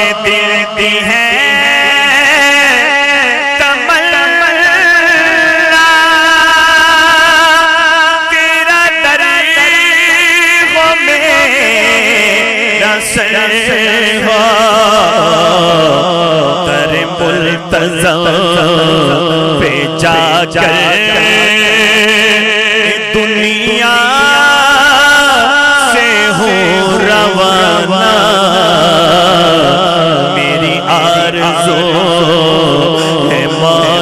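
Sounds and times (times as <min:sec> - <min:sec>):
man singing into a microphone: 0:00.0 - 0:34.0.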